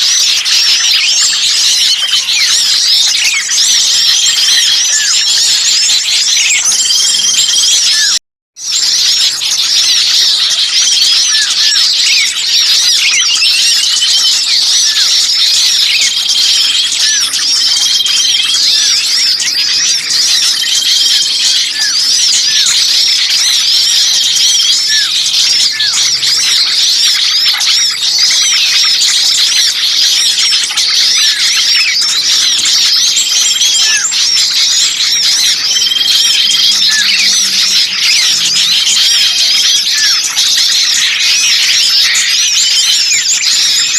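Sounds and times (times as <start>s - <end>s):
small birds chirping chorus: 0.0s - 43.9s.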